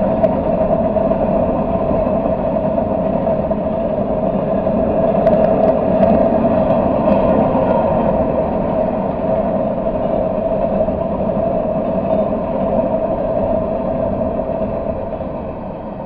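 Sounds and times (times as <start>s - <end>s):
train wheels rumbling and rattling: 0.0s - 16.0s.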